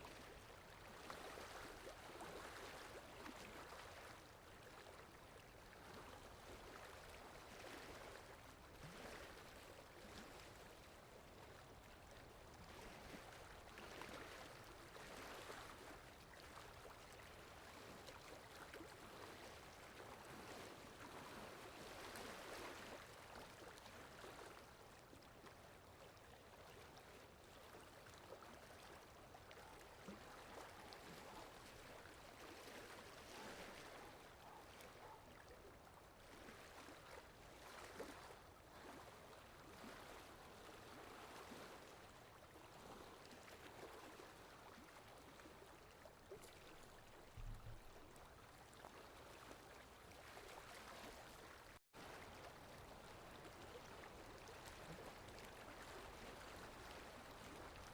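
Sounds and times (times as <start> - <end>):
faint flowing water: 0.0 - 57.9.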